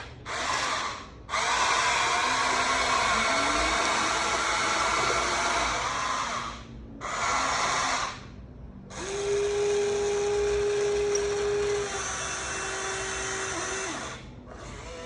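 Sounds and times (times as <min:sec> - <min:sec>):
electric motors whirring: 0:00.0 - 0:15.0.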